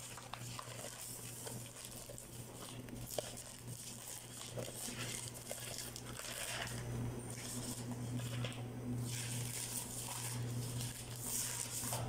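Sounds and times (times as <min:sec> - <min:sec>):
steady low hum: 0:00.0 - 0:12.0
wrapping paper rustling: 0:00.0 - 0:12.0.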